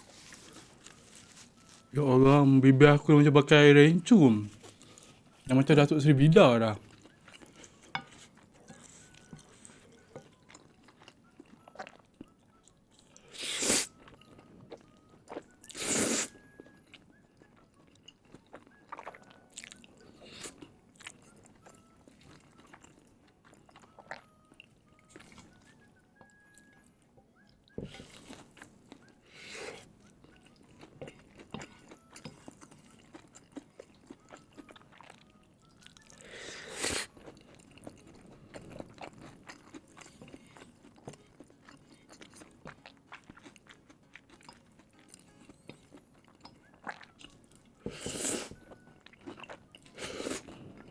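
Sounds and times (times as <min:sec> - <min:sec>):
chewing with wet clicks: 0:06.8 - 0:50.9.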